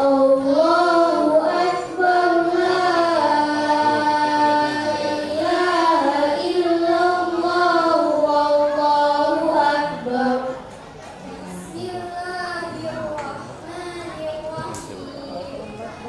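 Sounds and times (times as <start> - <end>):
child chanting melodically: 0.0 - 10.7, 11.5 - 16.0.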